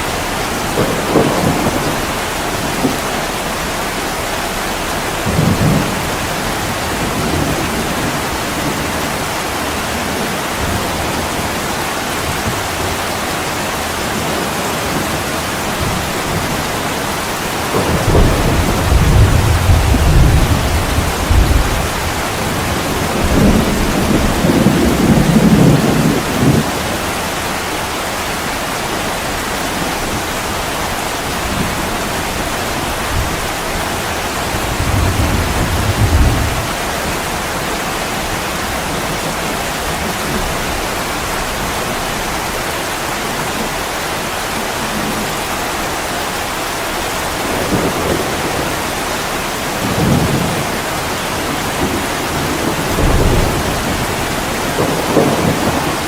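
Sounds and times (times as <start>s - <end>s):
heavy rain on window glass: 0.0s - 56.0s.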